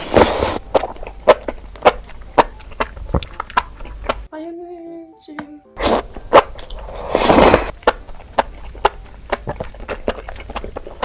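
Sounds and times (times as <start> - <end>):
loud bite into food: 0.0 - 4.3, 5.8 - 11.0
wet chewing clicks: 0.0 - 4.3, 5.8 - 11.0.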